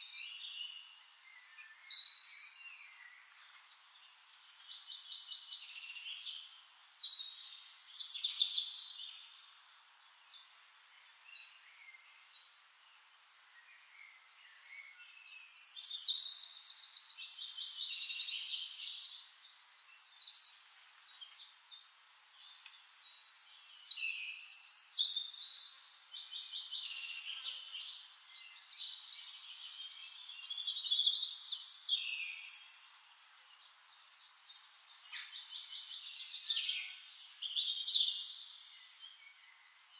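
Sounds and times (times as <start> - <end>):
songbird trilling and chirping: 0.0 - 12.2, 14.6 - 39.9.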